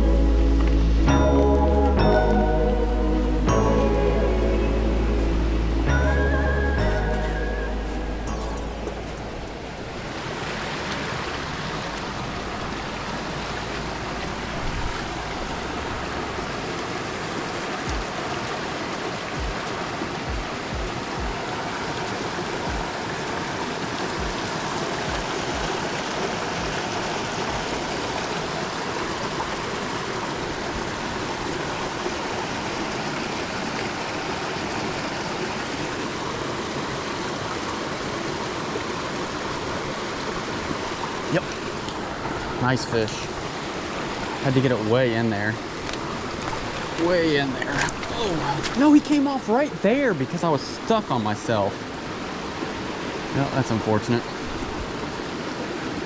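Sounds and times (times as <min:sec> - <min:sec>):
creek rushing over rocks: 0:07.1 - 0:56.0.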